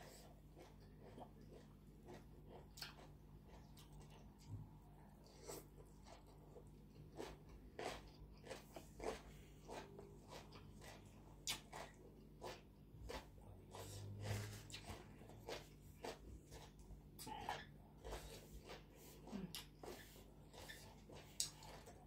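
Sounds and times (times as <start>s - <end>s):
person chewing noodles: 0.0s - 22.0s.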